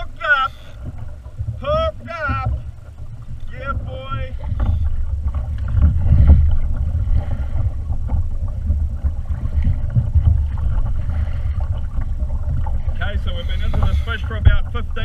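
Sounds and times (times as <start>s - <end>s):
sea water moving around kayak: 0.0s - 15.0s
wind buffeting microphone: 0.0s - 15.0s.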